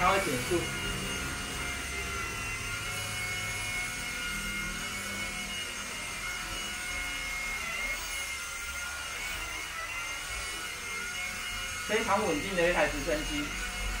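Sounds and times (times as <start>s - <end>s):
toy helicopter rotors whining: 0.0s - 14.0s.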